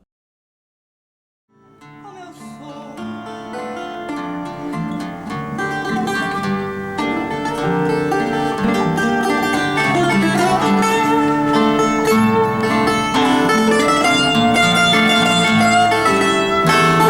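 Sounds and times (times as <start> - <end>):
plucked guitars playing: 1.6 - 17.0.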